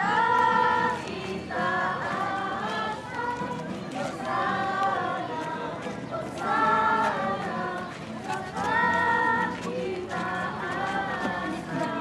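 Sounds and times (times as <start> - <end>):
group singing a hymn: 0.0 - 12.0
murmur of crowd: 0.0 - 12.0.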